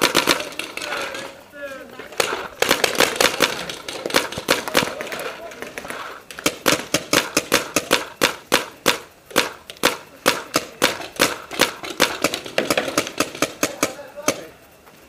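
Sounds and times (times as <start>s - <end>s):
paintball markers firing: 0.0s - 1.4s, 2.1s - 14.6s.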